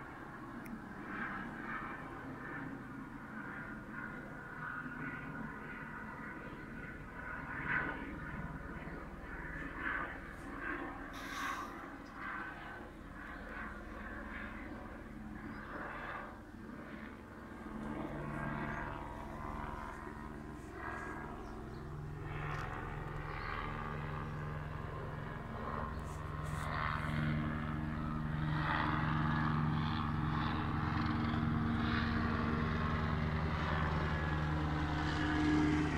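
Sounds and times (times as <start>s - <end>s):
helicopter engine and rotor drone: 0.0s - 35.9s.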